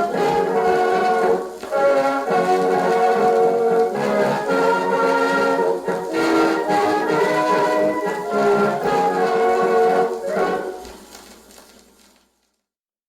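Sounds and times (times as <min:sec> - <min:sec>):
brass band music from phonograph: 0:00.0 - 0:11.4.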